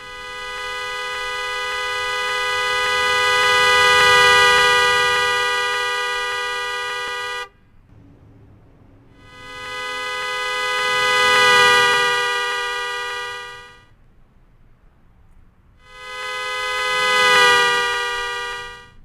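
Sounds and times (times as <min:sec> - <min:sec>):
two-tone car horn: 0:00.0 - 0:08.1, 0:08.9 - 0:14.0, 0:15.8 - 0:19.0.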